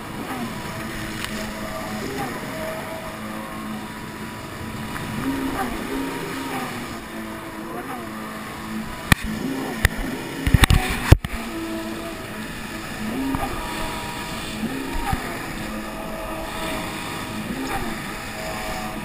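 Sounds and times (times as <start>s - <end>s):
jet ski engine revving: 0.0s - 19.0s
water rushing and spray: 0.0s - 19.0s.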